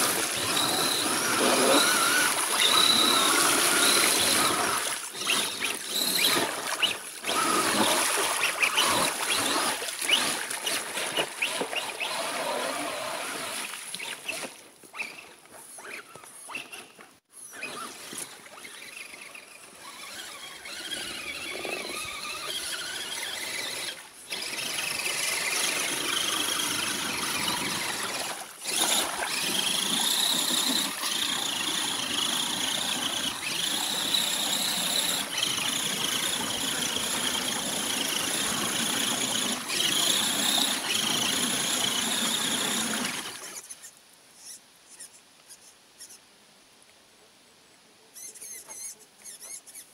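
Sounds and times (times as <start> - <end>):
toy truck motor whining: 0.0 - 46.2, 48.2 - 49.9.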